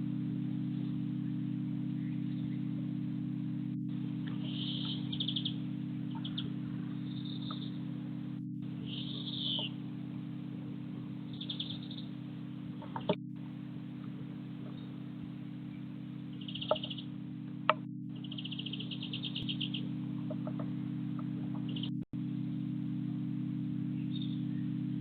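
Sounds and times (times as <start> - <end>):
songbirds chirping: 0.0 - 25.0
steady low hum: 0.0 - 25.0.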